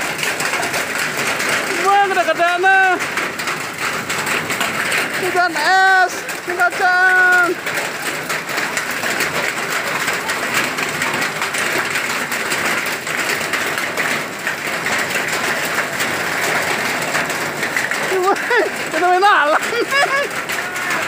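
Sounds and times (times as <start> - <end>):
hail on metal roof: 0.0 - 21.0.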